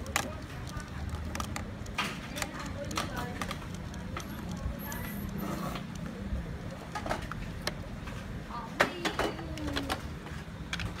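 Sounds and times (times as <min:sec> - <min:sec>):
plastic toy figures clicking: 0:00.0 - 0:08.2, 0:08.8 - 0:11.0.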